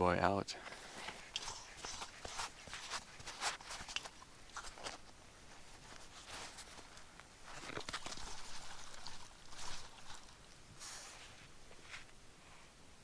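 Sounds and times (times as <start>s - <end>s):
gear rustling: 0.8s - 12.1s.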